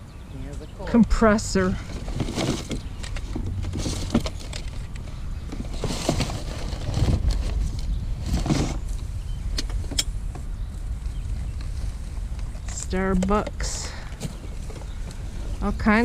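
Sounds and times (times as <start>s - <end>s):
rustling and clattering of items: 0.9s - 16.0s
low rumble: 1.1s - 16.0s.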